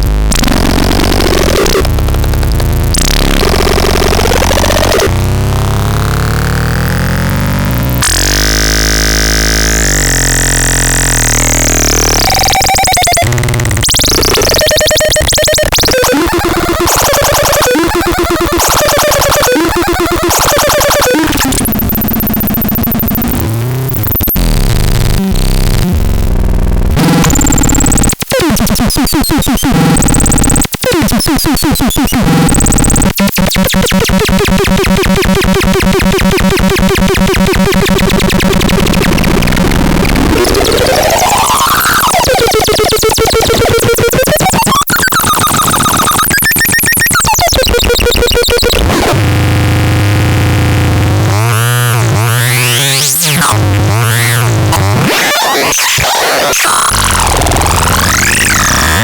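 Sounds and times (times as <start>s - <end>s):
harsh noisy synthesizer tones: 0.0s - 59.0s.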